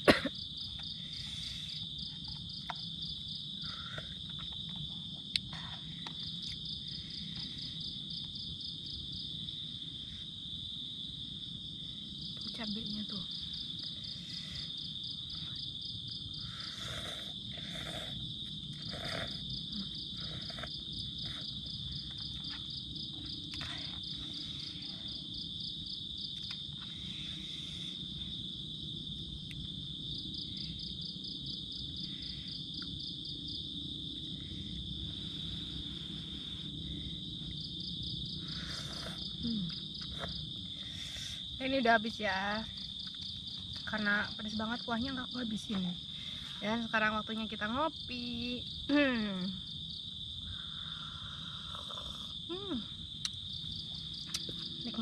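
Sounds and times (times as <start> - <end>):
fast pulsing insect chirr: 0.0 - 55.0
high-pitched insect trill: 0.0 - 55.0.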